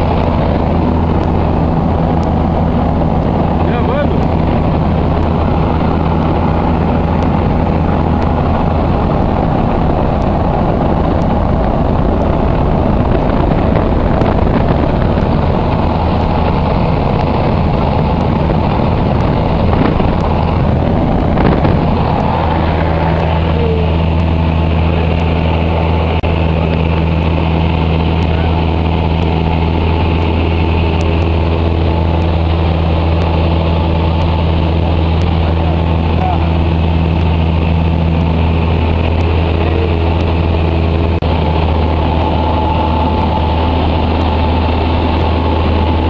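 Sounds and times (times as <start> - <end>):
propeller engine droning: 0.0 - 46.0
rush of air: 0.0 - 46.0.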